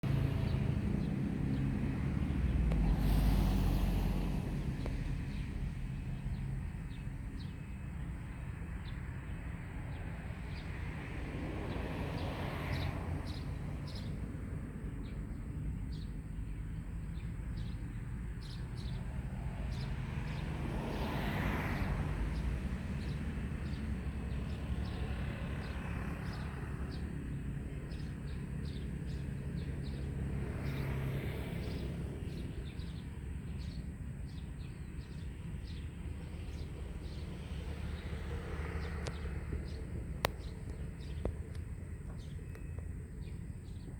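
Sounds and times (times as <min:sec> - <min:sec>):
small birds chirping: 0:00.0 - 0:11.0, 0:11.7 - 0:43.9.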